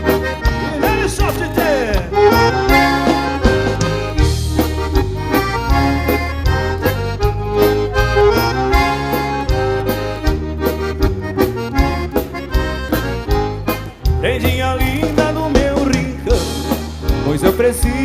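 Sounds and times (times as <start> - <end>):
accordion melody: 0.0 - 18.0
bass: 0.0 - 18.0.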